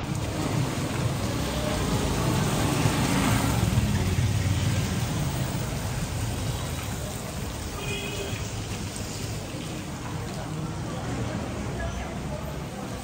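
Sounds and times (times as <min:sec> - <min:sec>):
vehicle engine rumbling: 0:00.0 - 0:12.8
street noise: 0:00.0 - 0:13.0.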